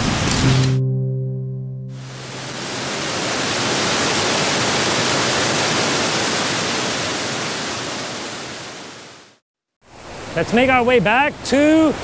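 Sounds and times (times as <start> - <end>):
water rushing over rocks: 2.0 - 12.0.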